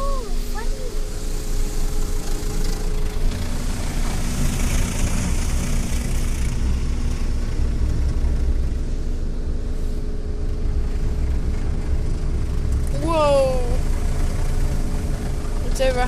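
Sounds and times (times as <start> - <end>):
steady low rumble: 0.0 - 16.0
water jets spraying car: 0.0 - 16.0.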